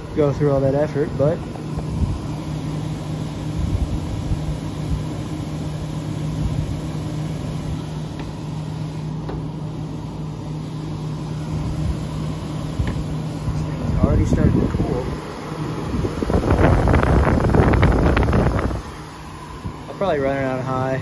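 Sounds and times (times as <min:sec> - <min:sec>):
air conditioner fan rushing: 0:00.0 - 0:21.0.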